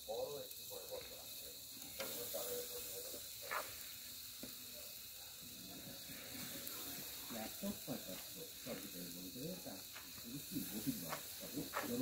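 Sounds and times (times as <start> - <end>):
chicken sizzling on grill: 0.0 - 12.0.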